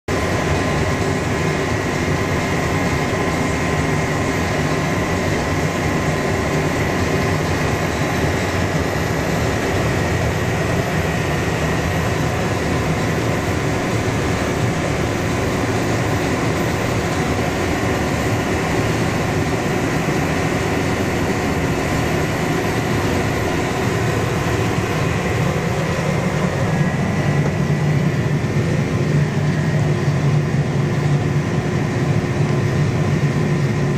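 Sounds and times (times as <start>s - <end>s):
faint steady whine: 0.1s - 33.9s
tractor engine drone: 0.1s - 33.9s.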